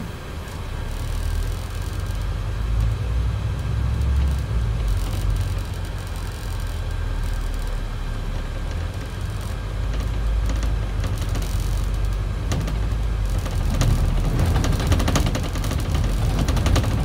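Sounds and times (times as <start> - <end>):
bus engine low rumble: 0.0 - 17.0
road noise: 0.0 - 17.0.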